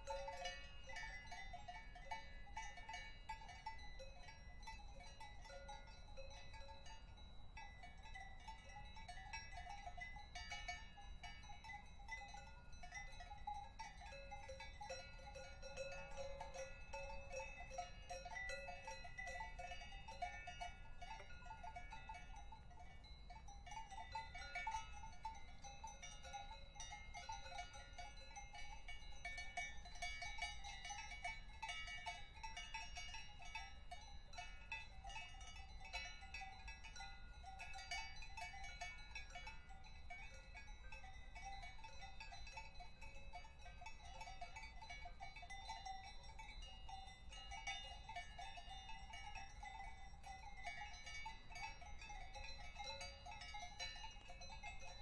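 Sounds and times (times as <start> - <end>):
cowbells clanking: 0.0 - 55.0.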